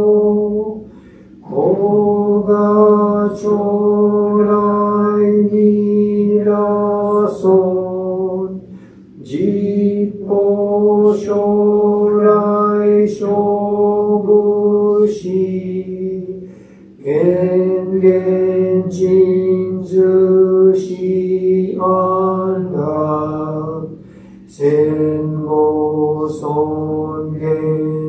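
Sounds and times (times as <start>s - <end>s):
man chanting: 0.0s - 28.0s.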